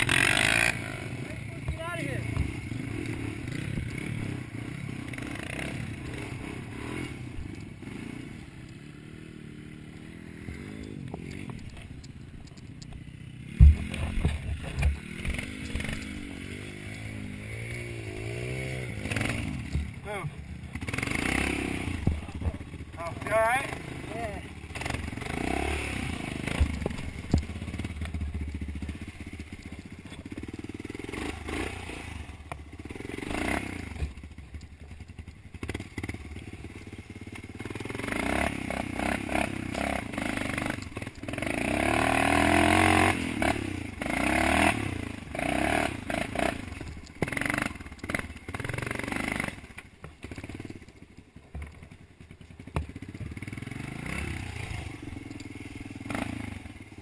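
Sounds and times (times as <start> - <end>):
dirt bike engine revving: 0.0 - 12.4, 13.0 - 50.8, 52.6 - 57.0.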